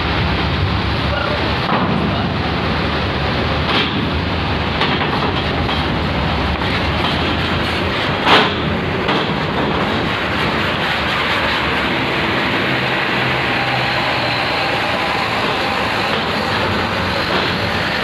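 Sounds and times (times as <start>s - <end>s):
bus engine and tyre rumble: 0.0s - 18.0s.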